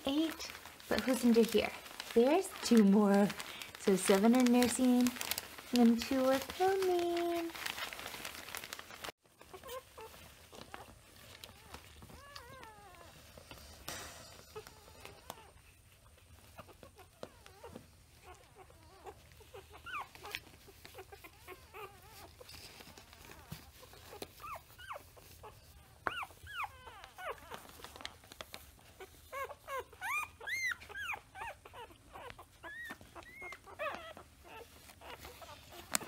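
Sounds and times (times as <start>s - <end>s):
puppies whimpering and squeaking: 0.1s - 36.0s.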